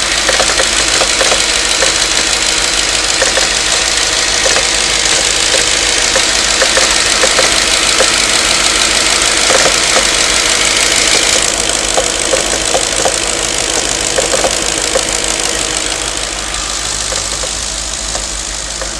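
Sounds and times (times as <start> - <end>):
engine knocking ticks: 0.0 - 18.9
engine running: 0.0 - 18.9.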